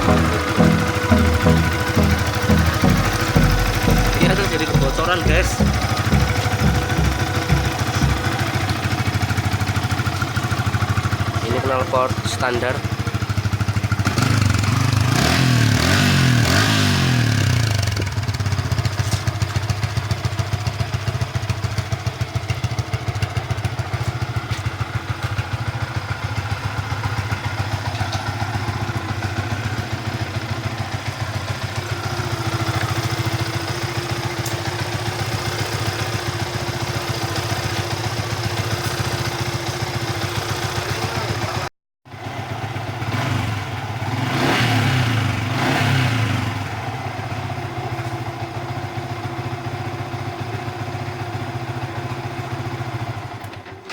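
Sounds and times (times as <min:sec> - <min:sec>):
motorcycle engine revving and idling: 0:00.0 - 0:53.7.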